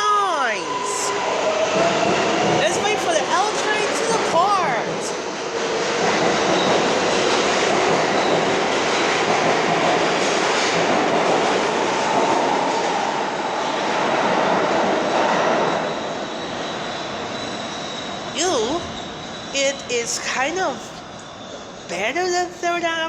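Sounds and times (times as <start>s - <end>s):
train wheels rumbling on rails: 0.0s - 22.8s.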